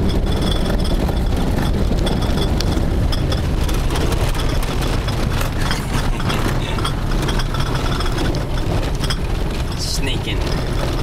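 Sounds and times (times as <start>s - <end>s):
car rumbling on dirt road: 0.0s - 11.0s
small knocks and rattles: 0.0s - 11.0s.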